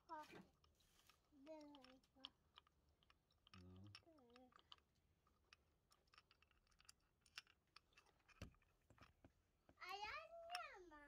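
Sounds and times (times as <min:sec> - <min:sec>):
faint clicks and ticks: 0:00.0 - 0:11.0.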